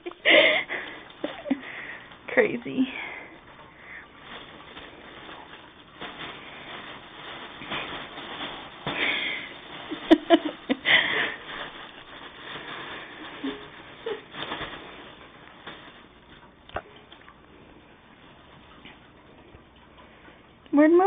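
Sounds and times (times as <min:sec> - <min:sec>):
cats rustling and scuffling: 0:00.0 - 0:21.0.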